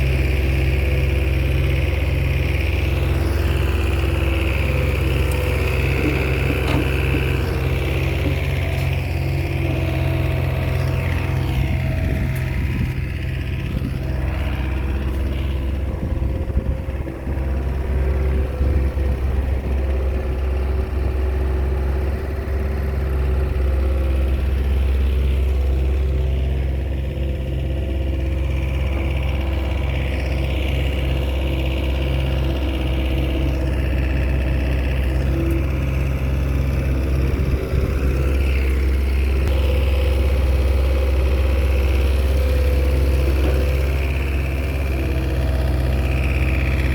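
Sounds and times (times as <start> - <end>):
bulldozer diesel engine droning: 0.0 - 46.9.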